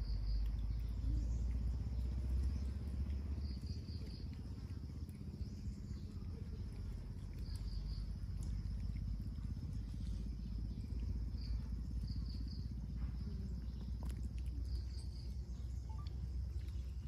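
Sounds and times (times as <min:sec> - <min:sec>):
insects chirping: 0:00.0 - 0:17.0
steady low rumble: 0:00.0 - 0:17.0.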